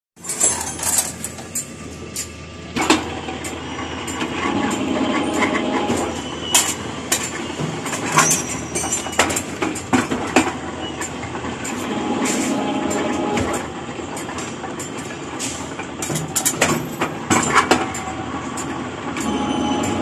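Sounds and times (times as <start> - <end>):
bending machine mechanical rumble: 0.2 - 20.0.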